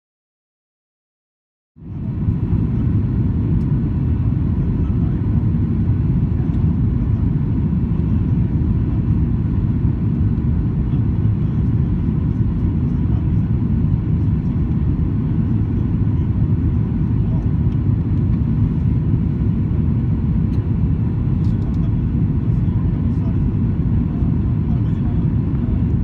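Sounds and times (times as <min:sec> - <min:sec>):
jet engine rumble in cabin: 0:01.8 - 0:26.0
faint steady whine: 0:01.9 - 0:26.0.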